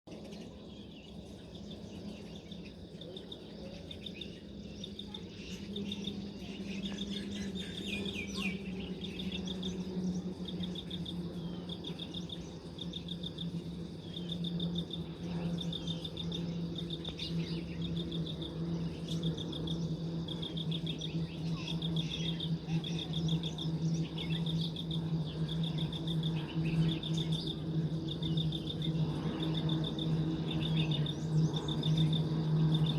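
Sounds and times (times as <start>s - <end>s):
steady low hum: 0.1s - 32.9s.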